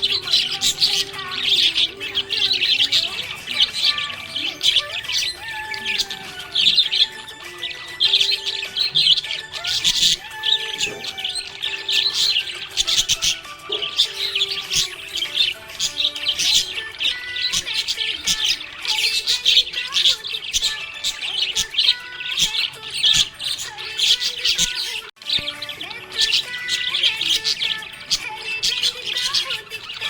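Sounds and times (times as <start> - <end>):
budgerigars chirping and warbling: 0.0 - 30.0.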